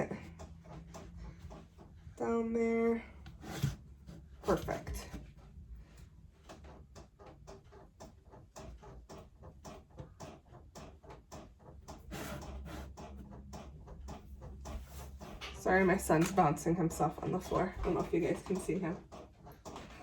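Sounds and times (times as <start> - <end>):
rapid light taps and clicks: 0.0 - 3.4, 4.1 - 20.0.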